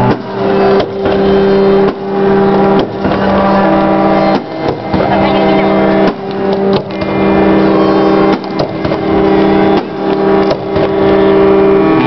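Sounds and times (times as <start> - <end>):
sharp cracks: 0.0 - 11.0
loud music of sustained chords: 0.0 - 12.0.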